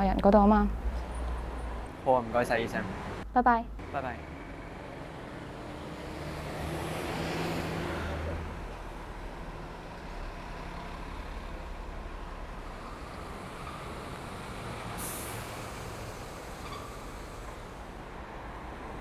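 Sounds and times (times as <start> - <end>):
road traffic rumble: 0.0 - 19.0
heavy vehicle engine hum: 0.7 - 19.0.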